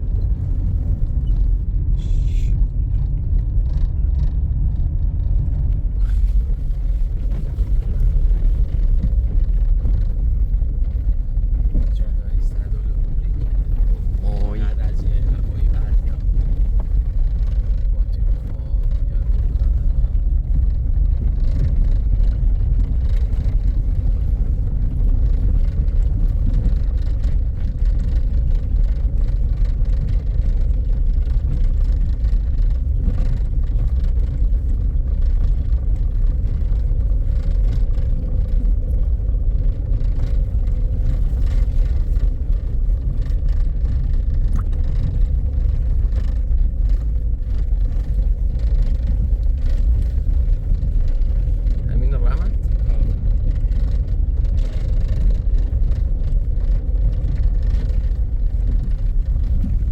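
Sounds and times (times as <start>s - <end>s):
road noise: 0.0s - 59.9s
vehicle engine rumble: 0.0s - 59.9s.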